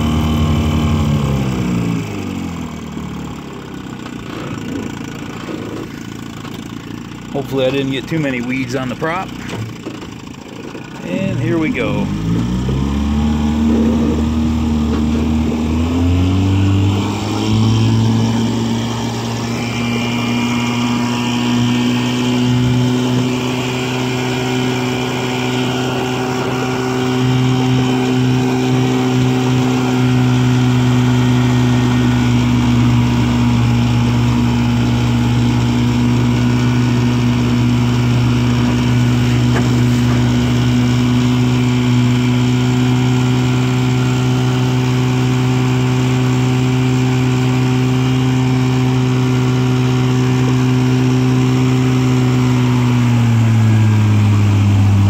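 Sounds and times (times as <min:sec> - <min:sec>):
outboard motor throttling up: 0:00.0 - 0:55.0.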